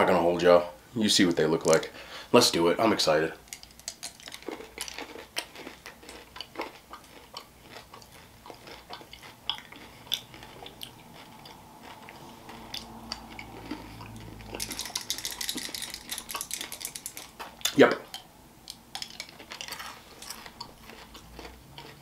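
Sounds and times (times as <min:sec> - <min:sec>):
candy crunching while chewing: 0:03.4 - 0:22.0.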